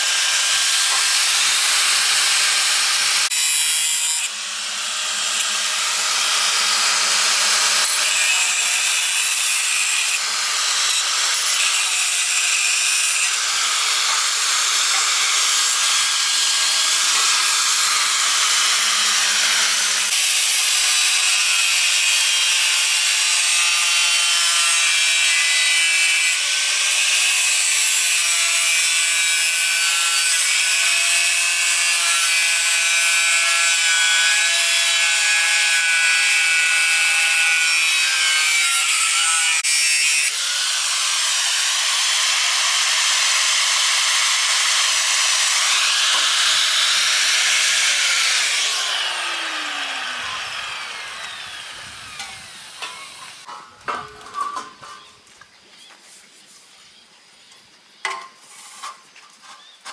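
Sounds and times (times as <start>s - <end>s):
angle grinder grinding metal: 0.0s - 55.2s.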